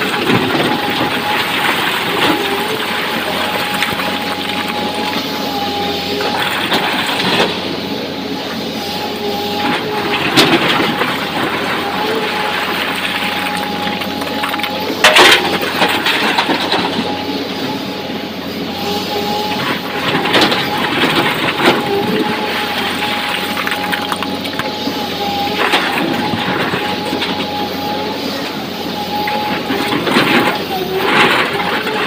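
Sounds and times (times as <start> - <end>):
excavator engine and hydraulics droning: 0.0 - 32.0.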